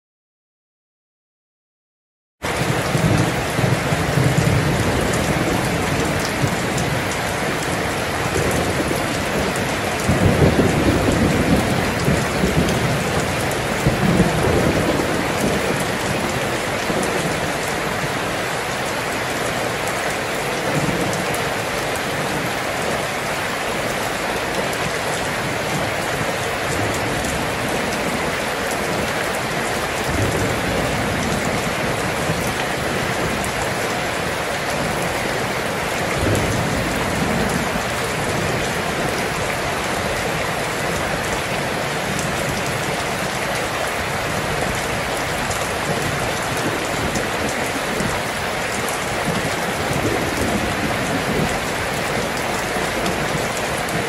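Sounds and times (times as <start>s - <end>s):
heavy rain falling: 2.4s - 54.0s.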